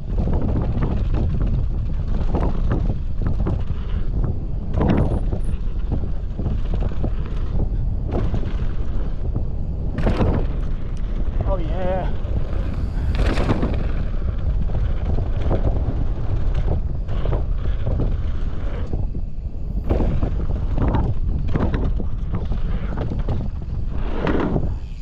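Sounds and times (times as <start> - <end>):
bike clattering over bumps: 0.0 - 25.0
tyre rumble: 0.0 - 25.0
wind on microphone: 0.0 - 25.0.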